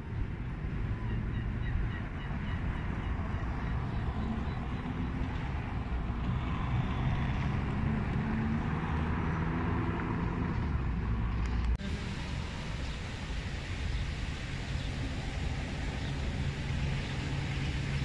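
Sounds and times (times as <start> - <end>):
engine hum: 0.0 - 18.0
traffic rumble: 0.0 - 18.0.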